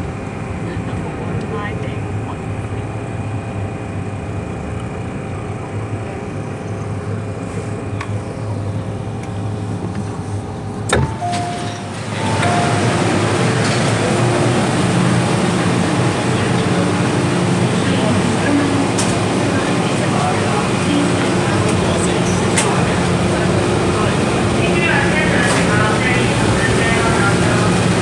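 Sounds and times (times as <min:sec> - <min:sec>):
train equipment hum: 0:00.0 - 0:28.0
train rushing noise: 0:00.0 - 0:28.0.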